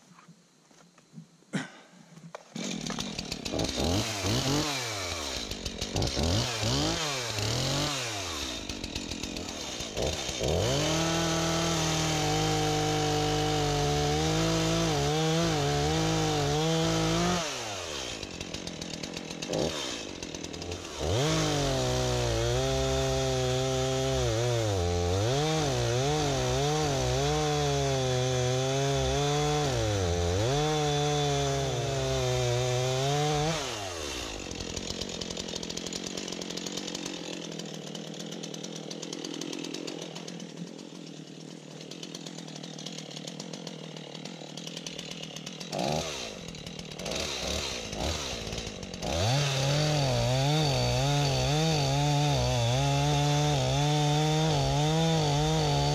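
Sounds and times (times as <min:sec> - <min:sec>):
chainsaw cutting wood: 0:01.6 - 0:55.9.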